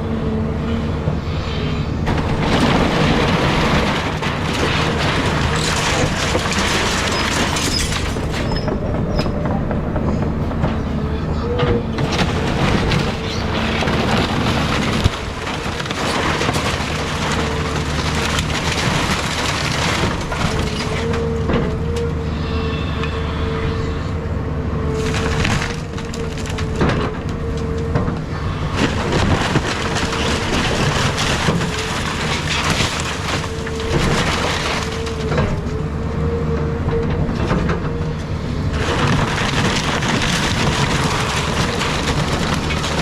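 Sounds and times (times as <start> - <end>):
wood debris cracking and crunching: 0.0 - 22.3, 24.4 - 43.0
excavator diesel engine whining: 0.0 - 43.0.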